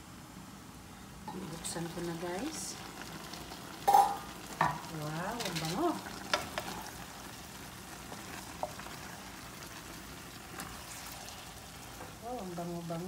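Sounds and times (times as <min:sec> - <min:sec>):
food sizzling in a pan: 0:01.2 - 0:13.0.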